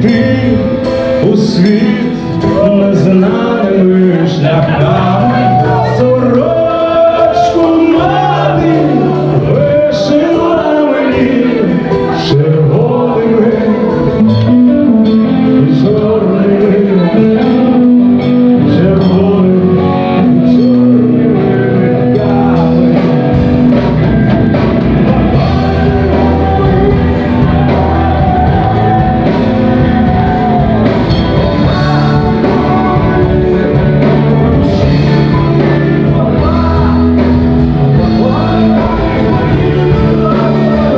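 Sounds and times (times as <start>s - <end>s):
bass guitar: 0.0s - 40.9s
drums: 0.0s - 40.9s
electric guitars: 0.0s - 40.9s
person singing: 0.0s - 40.9s.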